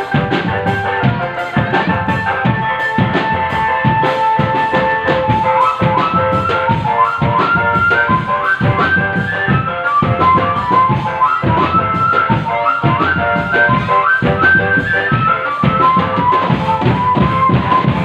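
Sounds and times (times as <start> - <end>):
fast high melody line: 0.0 - 18.0.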